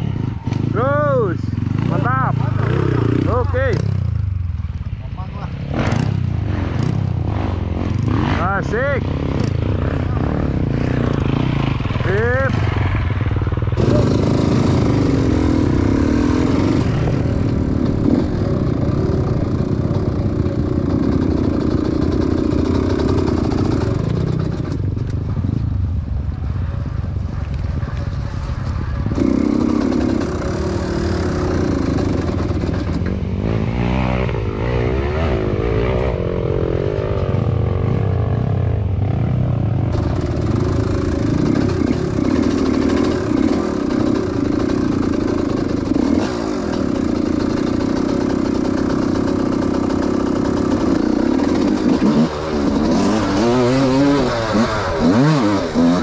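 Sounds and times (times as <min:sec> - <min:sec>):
dirt bike engine revving: 0:00.0 - 0:04.6, 0:05.2 - 0:25.6, 0:27.3 - 0:56.0.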